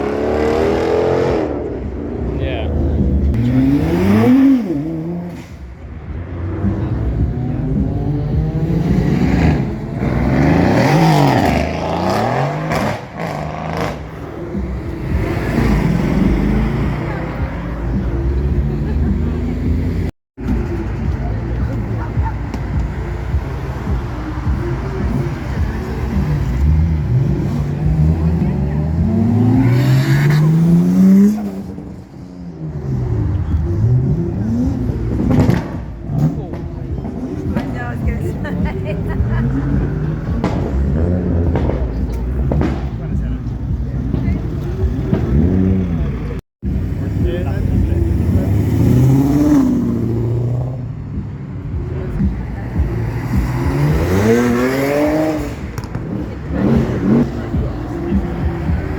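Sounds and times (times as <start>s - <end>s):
car engine revving: 0.0s - 58.9s
car engines running: 0.0s - 58.9s.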